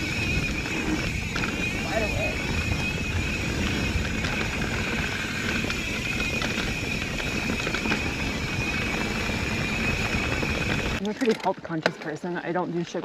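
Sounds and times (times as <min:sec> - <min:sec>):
bike tyres rumbling on dirt: 0:00.0 - 0:11.0
wind on camera: 0:00.0 - 0:11.1
bike clicks and rattles: 0:00.0 - 0:12.9.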